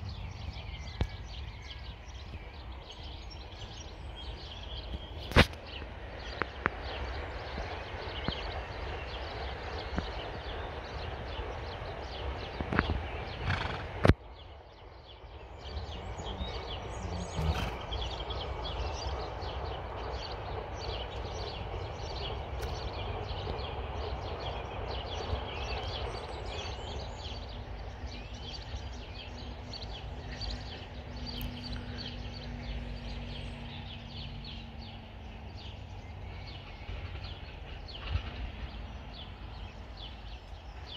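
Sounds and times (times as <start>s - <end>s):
wind rumble on microphone: 0.0s - 14.7s, 15.4s - 40.9s.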